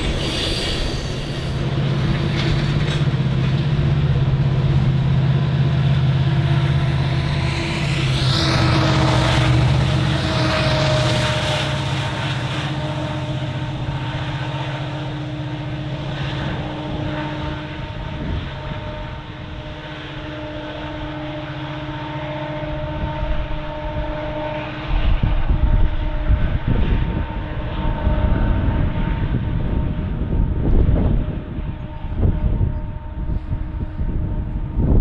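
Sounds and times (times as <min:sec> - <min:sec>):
diesel locomotives droning whine: 0:00.0 - 0:35.0
train rumbling on rails: 0:00.0 - 0:35.0.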